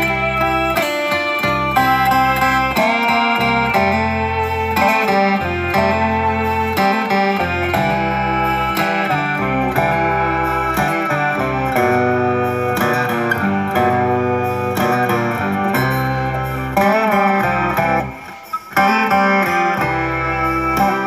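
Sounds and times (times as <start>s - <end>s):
background music melody: 0.0s - 21.0s.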